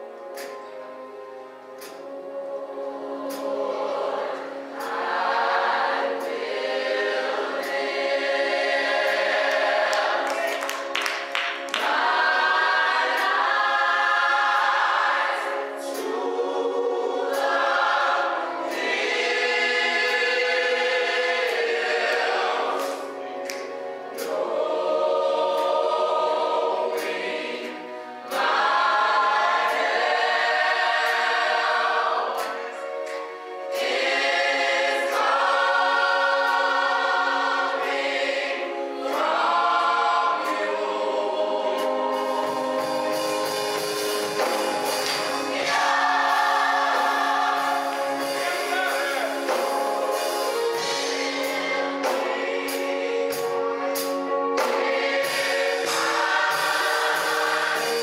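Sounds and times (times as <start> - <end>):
gospel choir singing in harmony: 0.0 - 58.0.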